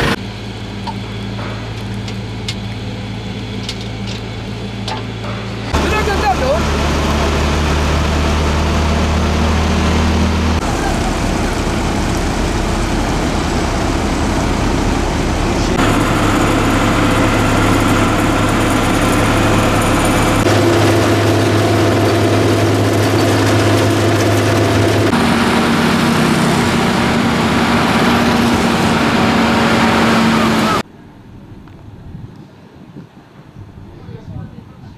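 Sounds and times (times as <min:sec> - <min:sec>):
heavy diesel engines running: 0:00.0 - 0:32.2.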